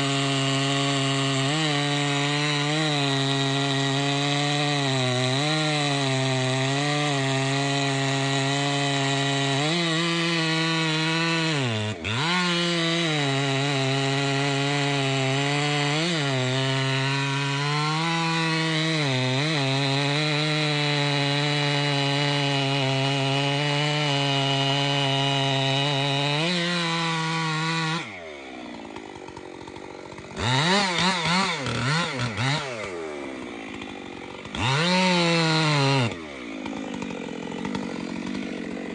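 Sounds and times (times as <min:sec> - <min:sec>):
chainsaw cutting wood: 0:00.0 - 0:38.9
chainsaw idling and revving: 0:00.0 - 0:38.9.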